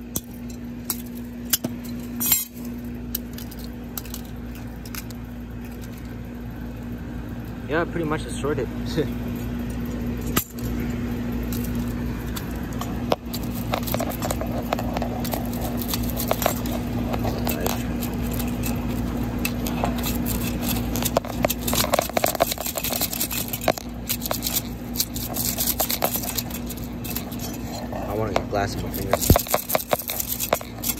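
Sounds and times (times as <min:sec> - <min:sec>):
metal scraping: 0:00.0 - 0:06.1, 0:09.2 - 0:30.9
glass and plastic crunching: 0:00.0 - 0:06.2, 0:10.2 - 0:30.9
low hum: 0:00.0 - 0:30.9.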